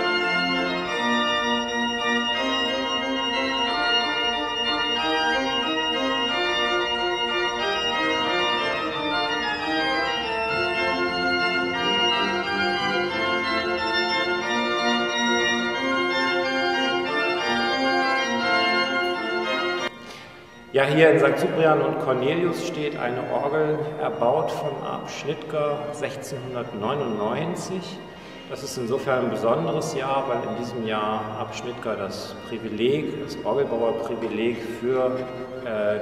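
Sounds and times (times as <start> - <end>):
pipe organ chords: 0.0 - 36.0.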